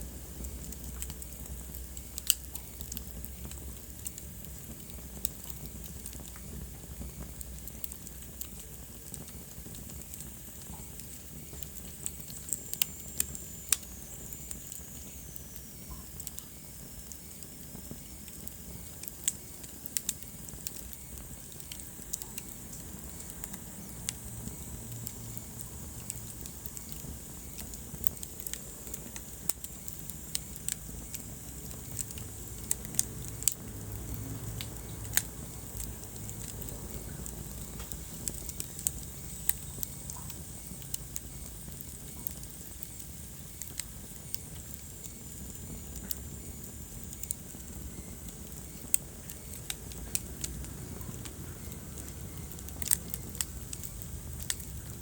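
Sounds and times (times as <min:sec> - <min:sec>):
low rumble of flame: 0:00.0 - 0:55.0
wood fire crackling and popping: 0:00.0 - 0:55.0.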